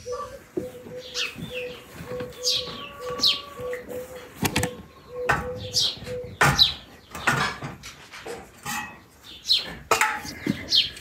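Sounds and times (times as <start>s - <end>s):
birds chirping: 0.0s - 7.9s, 8.9s - 11.0s.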